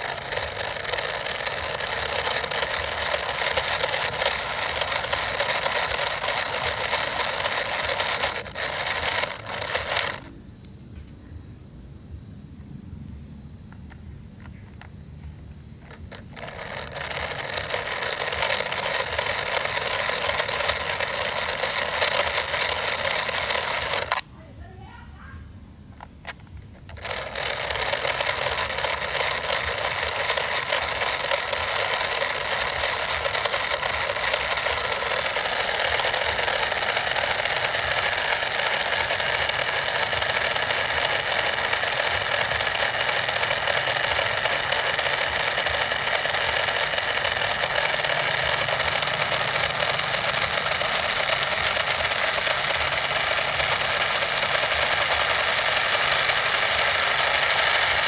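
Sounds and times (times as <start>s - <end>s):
small motor whirring rattle: 0.0s - 11.2s, 13.7s - 24.2s, 25.9s - 58.0s.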